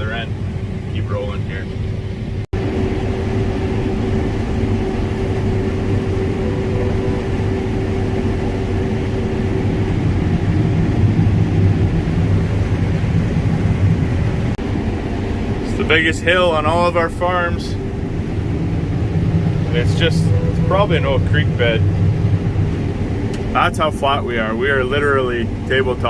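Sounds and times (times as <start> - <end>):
combine harvester engine and threshing: 0.0 - 26.0.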